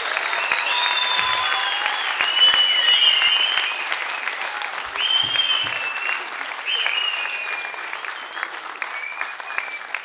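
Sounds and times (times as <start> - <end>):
audience applauding: 0.0 - 10.0
shrill whistles: 0.2 - 10.0.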